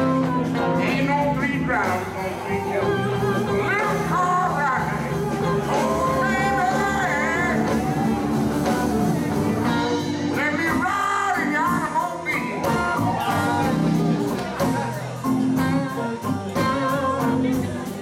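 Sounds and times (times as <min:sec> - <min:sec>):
lead singer singing: 0:00.0 - 0:18.0
live blues band playing: 0:00.0 - 0:18.0.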